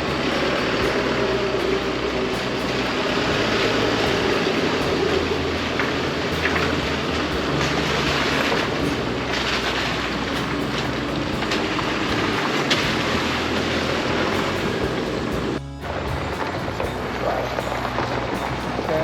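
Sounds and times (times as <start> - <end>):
pickup truck engine: 0.0 - 19.0
tyres on dirt trail: 0.0 - 19.0.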